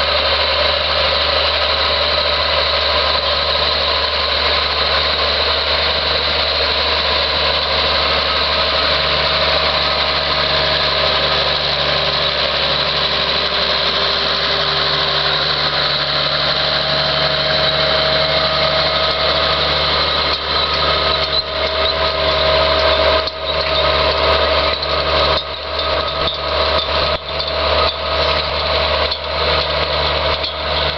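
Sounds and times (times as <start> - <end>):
tractor diesel engine under load: 0.0 - 30.9.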